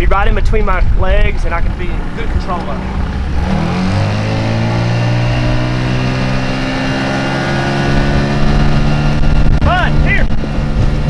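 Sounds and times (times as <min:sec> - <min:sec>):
boat motor running: 0:00.8 - 0:11.0.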